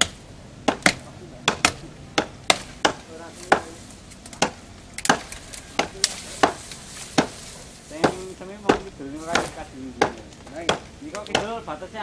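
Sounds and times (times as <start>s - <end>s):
chopping strikes on wood: 0.0s - 11.7s.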